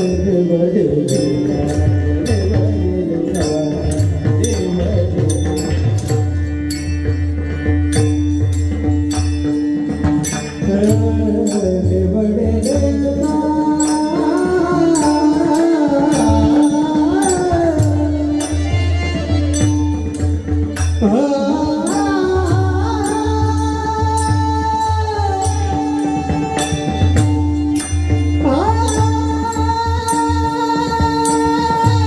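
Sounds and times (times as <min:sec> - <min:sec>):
man singing: 0:00.0 - 0:06.2, 0:10.5 - 0:20.2, 0:20.9 - 0:32.0
percussion strokes: 0:00.0 - 0:32.0.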